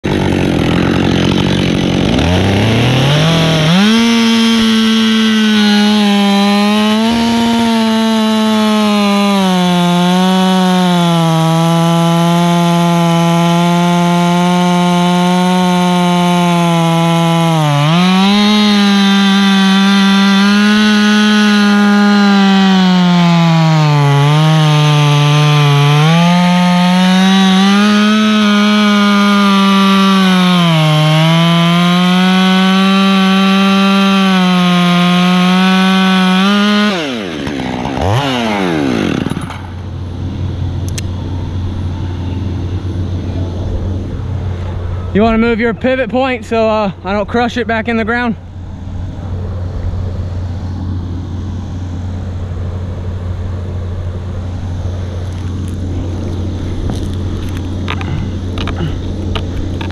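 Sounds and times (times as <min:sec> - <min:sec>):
chainsaw cutting wood: 0:00.0 - 0:43.3, 0:53.6 - 0:59.9.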